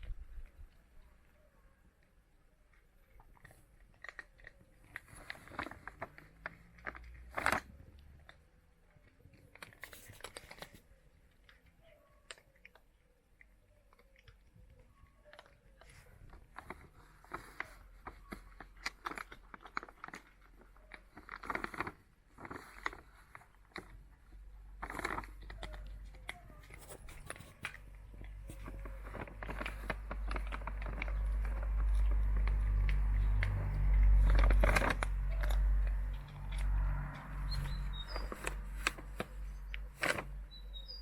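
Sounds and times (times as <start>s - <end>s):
cats crunching dry food: 1.8s - 40.9s.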